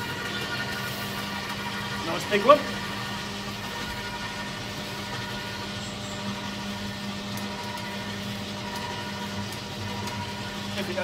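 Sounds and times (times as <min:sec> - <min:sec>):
garden shredder motor humming: 0:00.0 - 0:11.0.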